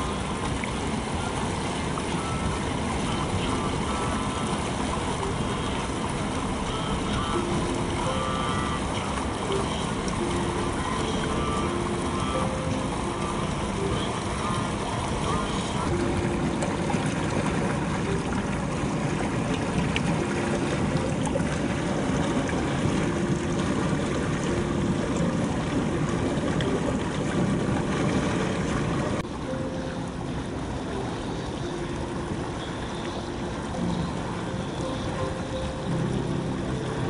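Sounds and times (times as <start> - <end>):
river rapids rushing over rocks: 0.0 - 37.0.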